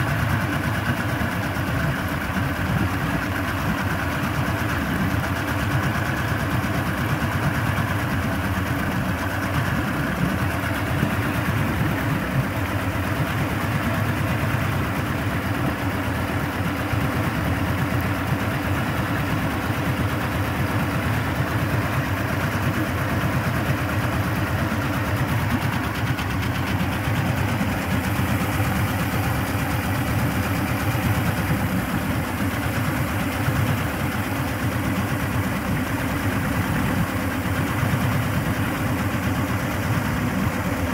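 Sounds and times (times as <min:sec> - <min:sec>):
outboard motor idling: 0:00.0 - 0:40.9.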